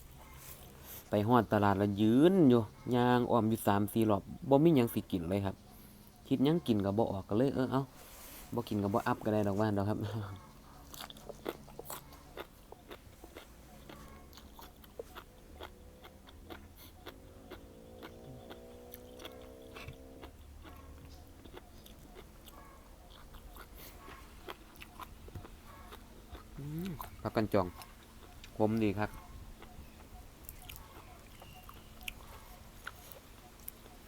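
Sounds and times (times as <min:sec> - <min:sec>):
man chewing food: 0:00.0 - 0:01.8, 0:08.1 - 0:34.0.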